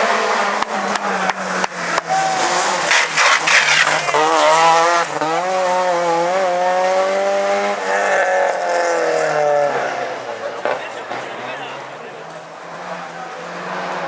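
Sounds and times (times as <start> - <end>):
rally car engine revving: 0.0 - 14.0
tyre noise: 0.0 - 14.0.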